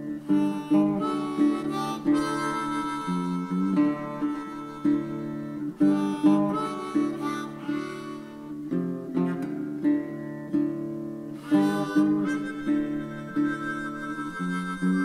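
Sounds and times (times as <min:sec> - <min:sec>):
harmonica playing held notes: 0:00.0 - 0:09.0, 0:11.4 - 0:15.0
acoustic guitar: 0:00.0 - 0:15.0.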